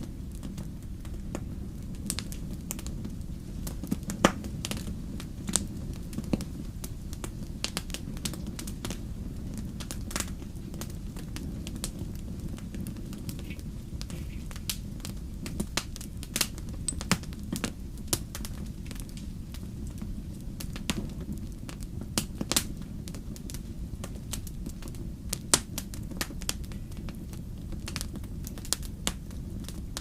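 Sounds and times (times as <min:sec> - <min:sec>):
fire low rumble: 0:00.0 - 0:30.0
wood fire crackling and popping: 0:00.0 - 0:30.0.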